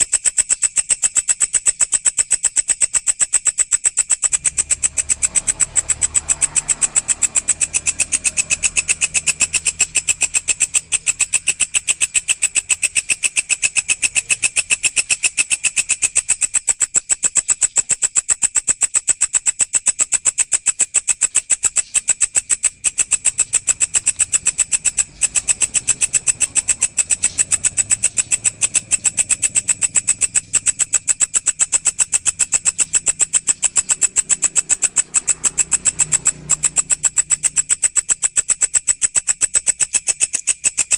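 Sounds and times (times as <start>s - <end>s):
grasshopper chirring: 0.0s - 40.9s.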